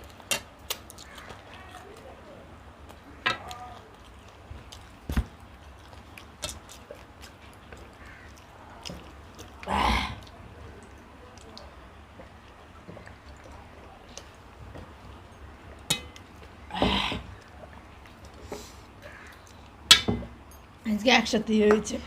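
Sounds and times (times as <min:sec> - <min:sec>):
people chewing food: 0:00.0 - 0:20.8.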